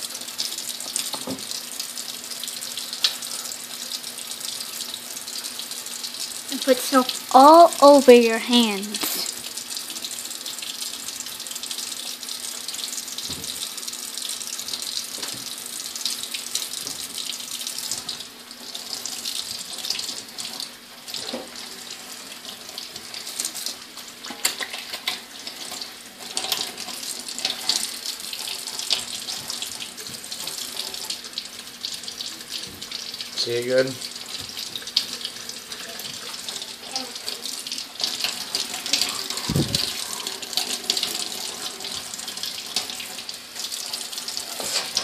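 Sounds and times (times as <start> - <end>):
tap water running into a sink: 0.0 - 45.0.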